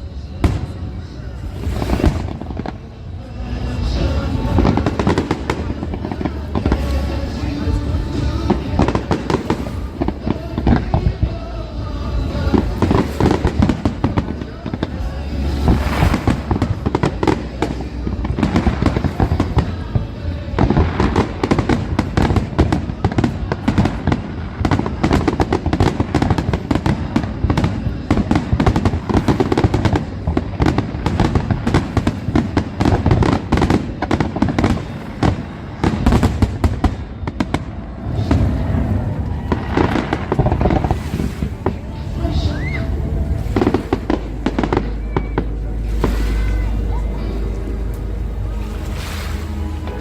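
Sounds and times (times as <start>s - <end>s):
deep firework boom: 0.0s - 47.0s
firework shell bursts and crackling: 0.4s - 42.5s.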